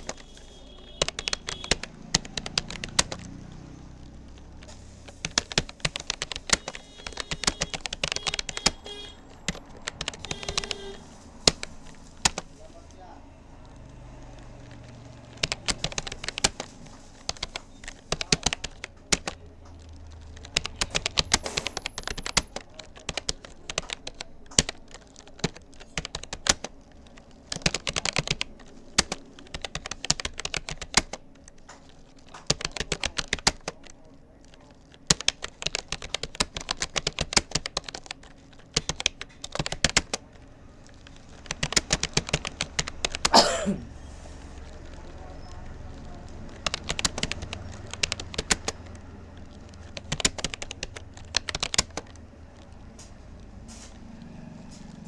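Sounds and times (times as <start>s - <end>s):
keyboard key clicks: 0.0s - 12.7s, 13.8s - 43.4s, 44.6s - 53.1s.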